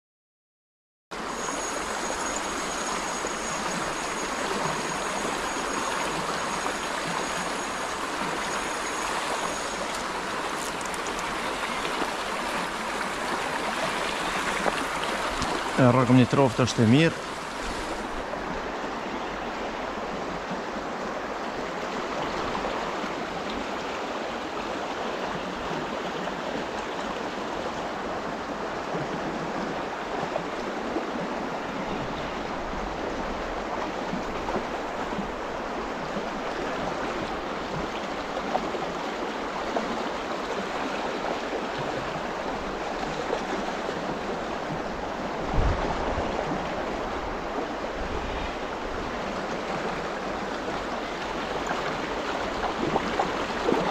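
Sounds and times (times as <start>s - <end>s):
river water rushing over riffle: 1.2s - 53.9s.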